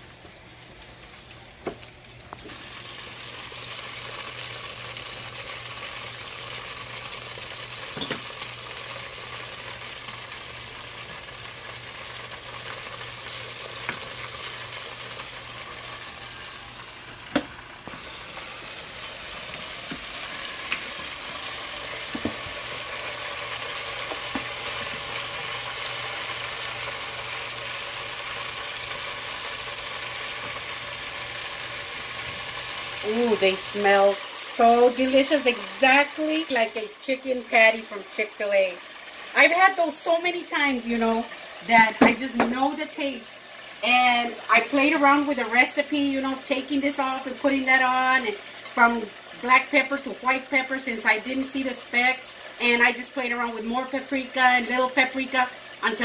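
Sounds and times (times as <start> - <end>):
chicken sizzling in deep fryer: 0.0 - 56.0.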